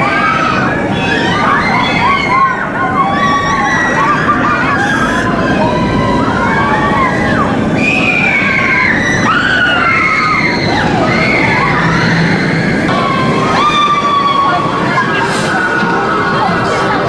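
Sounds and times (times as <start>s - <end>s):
people screaming and whooping: 0.0s - 17.0s
steady rushing rumble: 0.0s - 17.0s.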